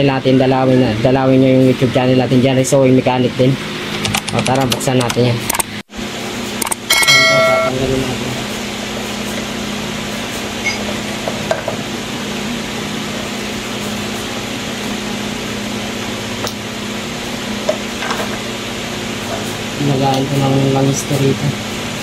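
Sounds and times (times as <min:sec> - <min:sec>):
steady hum and hiss: 0:00.0 - 0:22.0.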